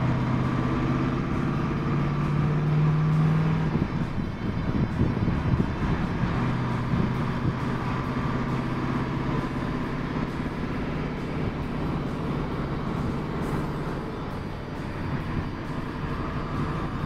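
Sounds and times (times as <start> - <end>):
car engine droning: 0.0 - 17.0
tyre and road noise: 0.0 - 17.0.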